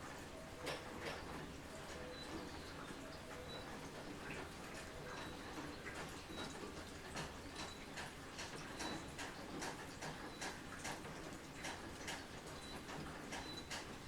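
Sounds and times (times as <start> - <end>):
soft hiss of rain: 0.0 - 14.0.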